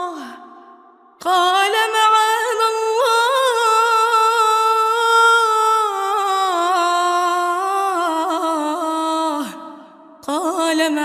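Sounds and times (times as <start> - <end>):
woman reciting melodically: 0.0 - 0.5, 1.2 - 11.0.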